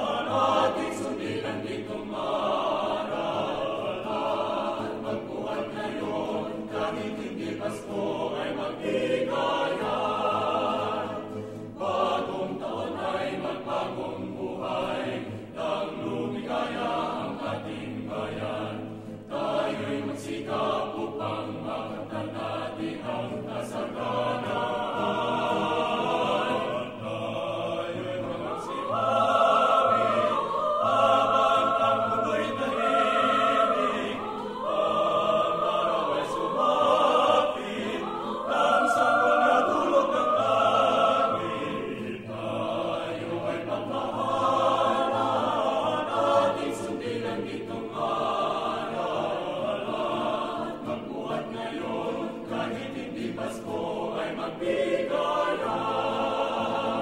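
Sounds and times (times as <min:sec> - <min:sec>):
choir singing held notes: 0:00.0 - 0:57.0.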